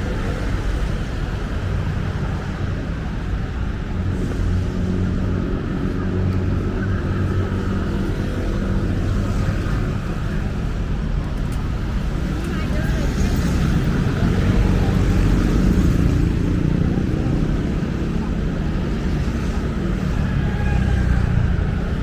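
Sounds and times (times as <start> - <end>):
city street traffic: 0.0 - 22.0
vehicle engines humming: 0.0 - 22.0.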